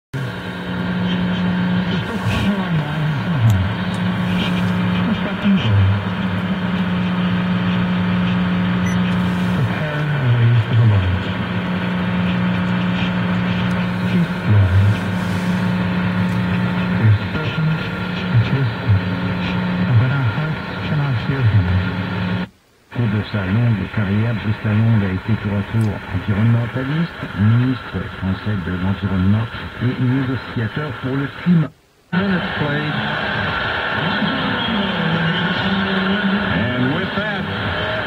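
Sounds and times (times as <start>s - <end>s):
radio static: 0.2s - 38.0s
faint voice on radio: 1.0s - 38.0s.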